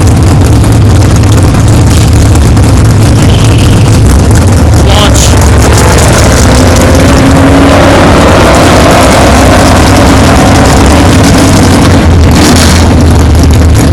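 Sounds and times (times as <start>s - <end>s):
dense rush of noise: 0.0s - 13.9s
vehicle engine accelerating: 0.0s - 13.9s.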